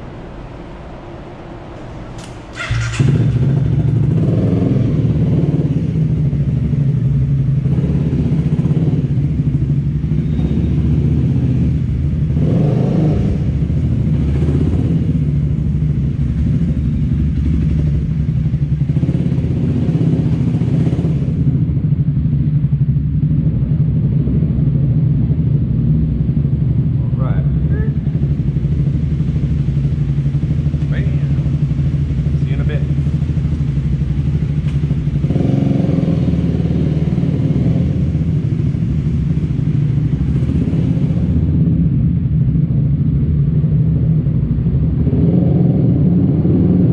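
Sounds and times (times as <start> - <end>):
motor scooter engine drone: 0.0 - 46.9.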